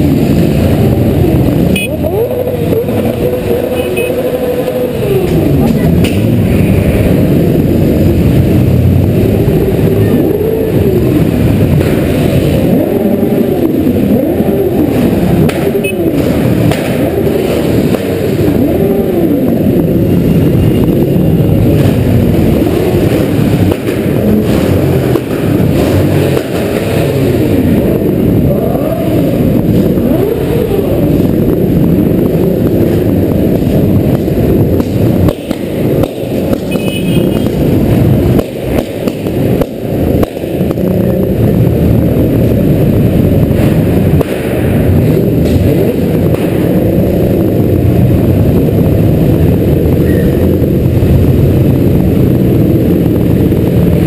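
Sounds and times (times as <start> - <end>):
motorcycle engine revving: 0.0 - 54.0
other motorcycles running: 0.0 - 54.0.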